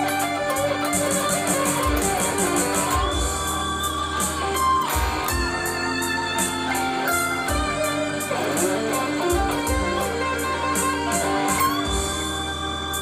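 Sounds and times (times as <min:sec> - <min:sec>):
backing track drums and bass: 0:00.0 - 0:13.0
electric guitar melodic lead: 0:00.0 - 0:13.0.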